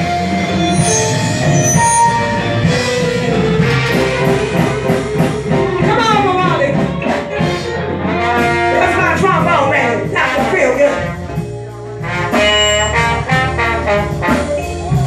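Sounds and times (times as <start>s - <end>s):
live band playing: 0.0s - 15.0s
sliding melody line: 0.0s - 15.0s.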